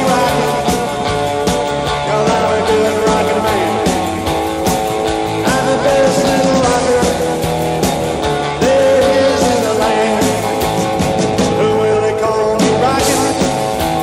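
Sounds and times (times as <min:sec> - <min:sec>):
rock and roll music: 0:00.0 - 0:14.0.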